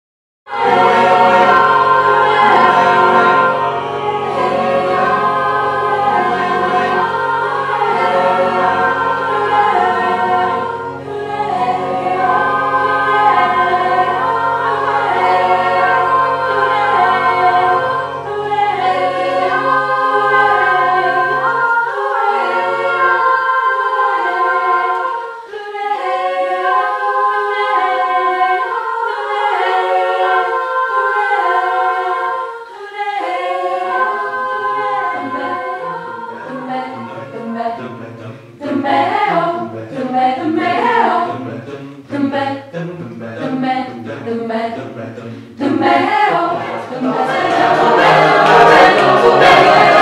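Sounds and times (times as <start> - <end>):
a cappella choir singing: 0.5 - 50.0.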